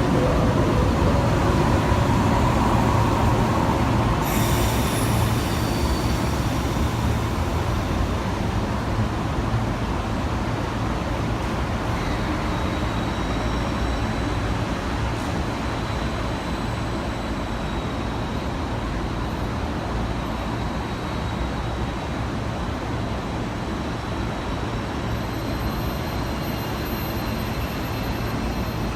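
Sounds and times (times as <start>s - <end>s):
train running hum: 0.0s - 28.9s.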